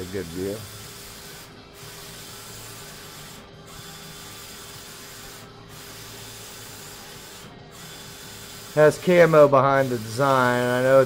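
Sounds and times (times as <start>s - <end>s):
inkjet printer running: 0.0s - 11.0s.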